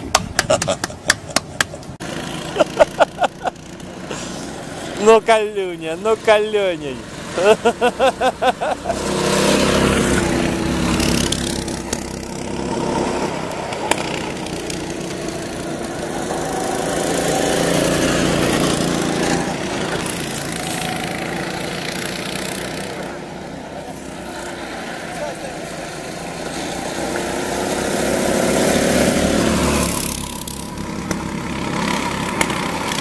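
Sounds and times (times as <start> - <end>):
go-kart engines passing: 0.0 - 33.0.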